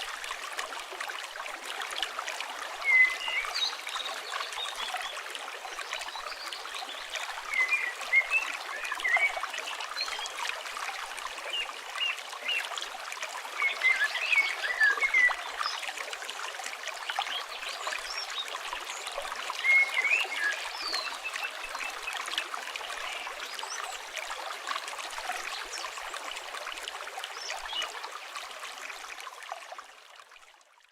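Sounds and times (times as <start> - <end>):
river water flowing: 0.0 - 30.8.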